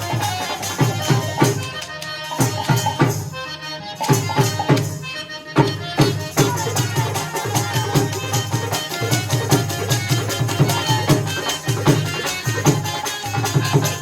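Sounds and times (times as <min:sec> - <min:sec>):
drum beating steady rhythm: 0:00.0 - 0:14.0.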